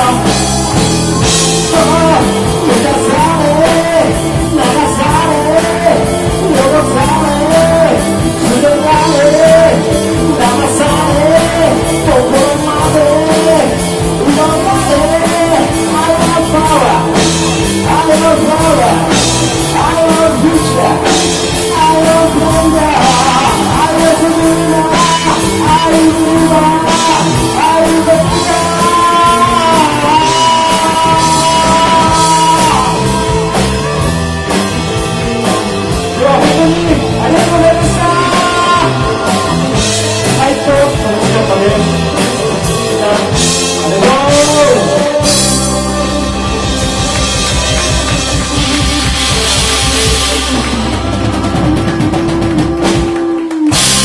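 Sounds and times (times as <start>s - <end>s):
person singing: 0.0s - 54.0s
rock band playing live: 0.0s - 54.0s.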